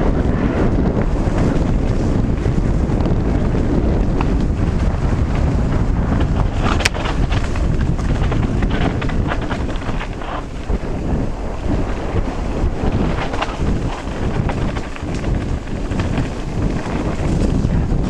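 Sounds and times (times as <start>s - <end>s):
bike rattling on rough ground: 0.0s - 18.0s
wind buffeting microphone: 0.0s - 18.0s.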